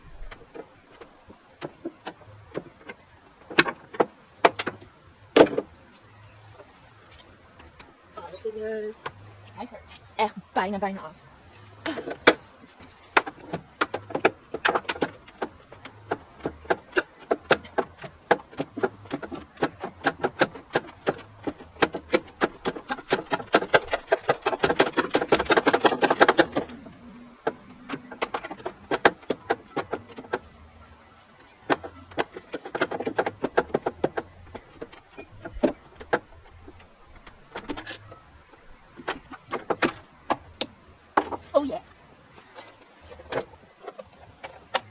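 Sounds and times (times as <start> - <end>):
hand tools clicking and knocking: 0.1 - 5.8, 11.9 - 44.9.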